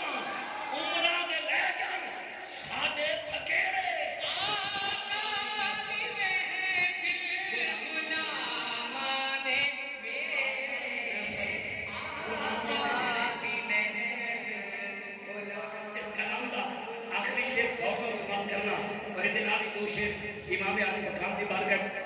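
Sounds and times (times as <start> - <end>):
man singing through loudspeaker: 0.0 - 22.0.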